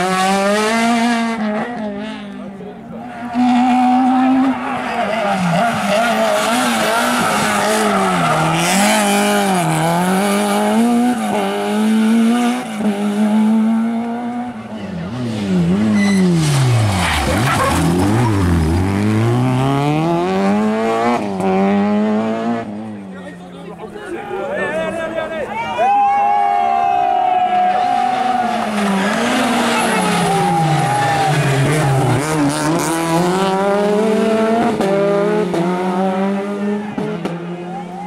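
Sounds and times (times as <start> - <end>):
rally car engines revving: 0.0 - 25.3, 27.4 - 38.0.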